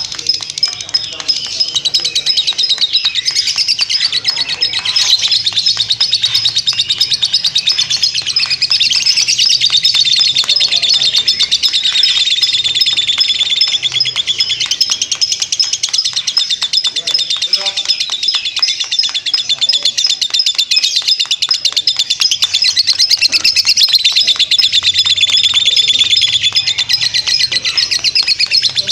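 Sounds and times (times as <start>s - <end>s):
lovebird chattering chirps: 0.0s - 28.9s.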